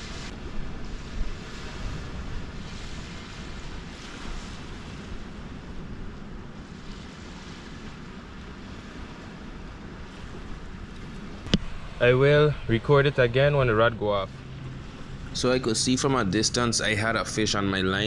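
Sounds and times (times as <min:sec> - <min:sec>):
wind noise on microphone: 0:00.0 - 0:17.2
surf washing on shore: 0:00.0 - 0:18.0.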